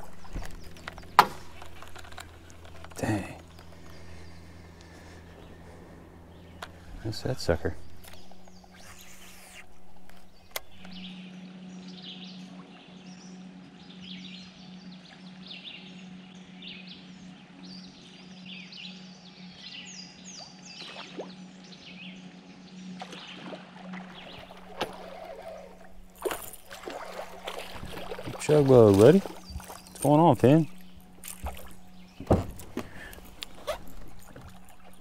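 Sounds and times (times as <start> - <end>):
low steady hum: 0.0 - 35.0
songbirds chirping and trilling: 0.0 - 35.0.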